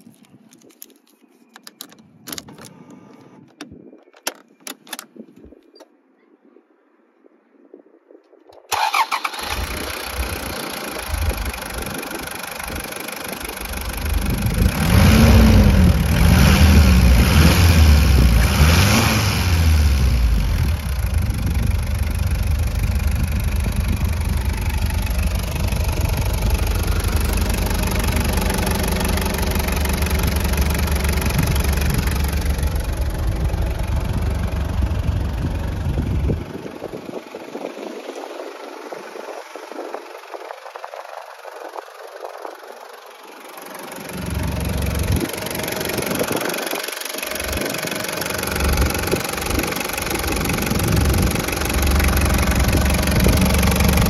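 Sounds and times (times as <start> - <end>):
diesel engine starting and revving: 8.7 - 54.0.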